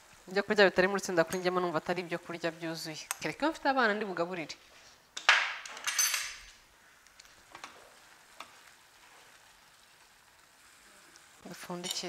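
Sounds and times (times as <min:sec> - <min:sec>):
vegetables sizzling in a pan: 0:00.0 - 0:05.0, 0:06.6 - 0:12.0.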